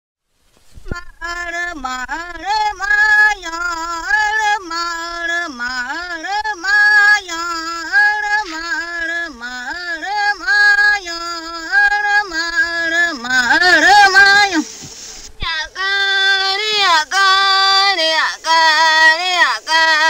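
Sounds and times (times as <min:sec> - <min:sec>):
woman singing slow melody: 0:00.9 - 0:20.0.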